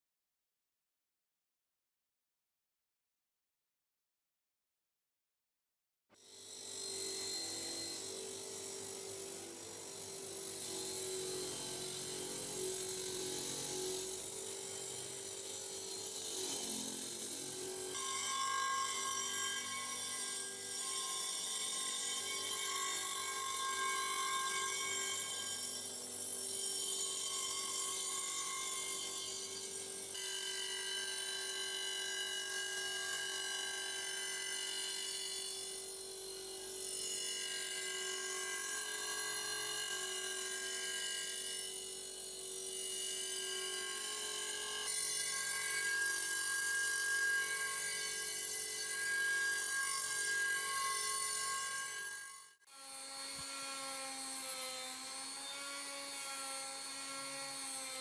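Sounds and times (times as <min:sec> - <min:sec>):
small power tool high whine: 0:06.2 - 0:58.0.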